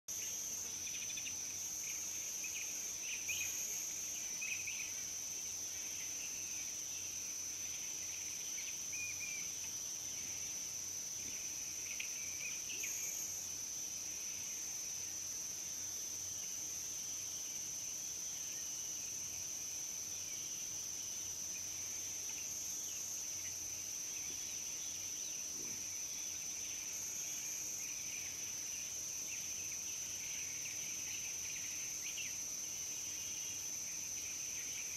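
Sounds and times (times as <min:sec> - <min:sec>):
high-pitched insect trill: 0:00.1 - 0:34.9.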